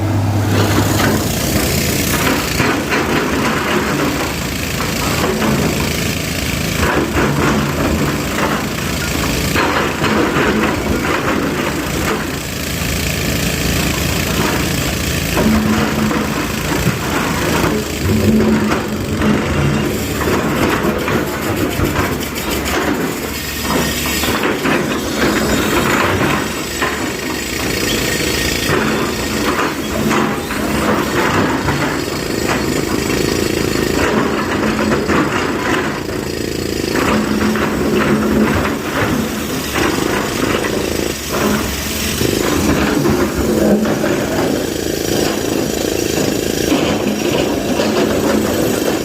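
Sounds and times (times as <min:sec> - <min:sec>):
diesel machinery engine running: 0:00.0 - 0:49.0
rattling and clanking: 0:00.1 - 0:49.0.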